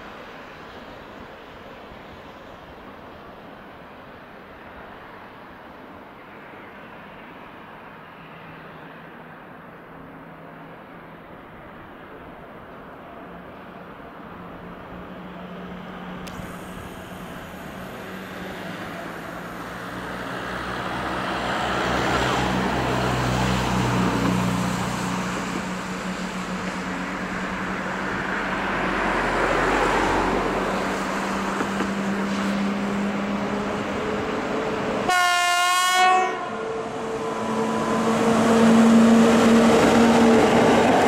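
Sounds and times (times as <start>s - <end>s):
distant train approaching: 0.0s - 41.0s
road traffic passing: 0.0s - 41.0s.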